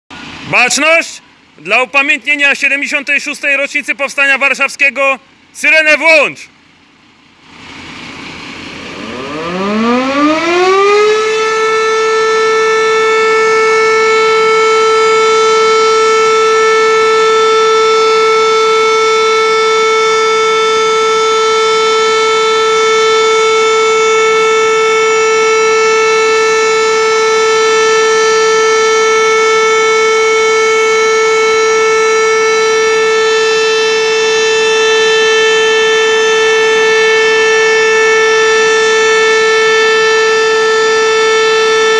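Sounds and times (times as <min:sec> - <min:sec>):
fire siren winding up: 0:07.6 - 0:41.9.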